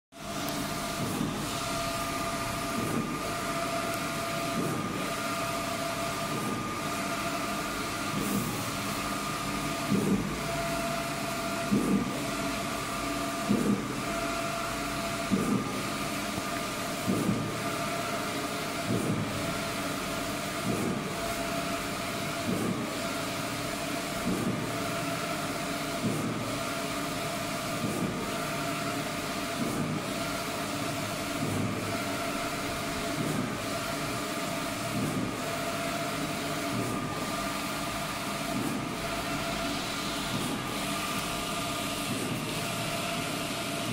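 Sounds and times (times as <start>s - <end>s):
printer motor whine: 0.2s - 43.9s.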